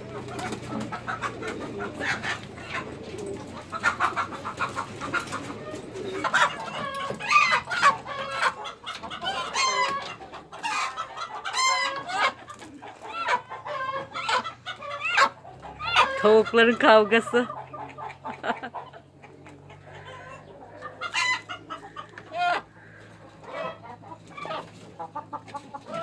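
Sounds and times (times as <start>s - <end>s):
chickens clucking and squawking: 0.0s - 26.0s.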